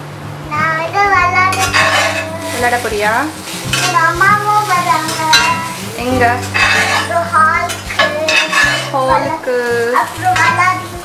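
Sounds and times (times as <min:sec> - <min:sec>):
child talking: 0:00.5 - 0:02.9, 0:03.8 - 0:11.0.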